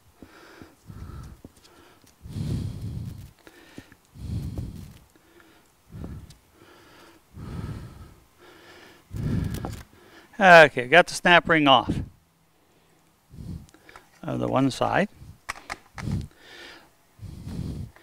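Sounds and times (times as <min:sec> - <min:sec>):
man breathing heavily: 0:00.0 - 0:10.4, 0:11.8 - 0:14.2, 0:15.1 - 0:18.0.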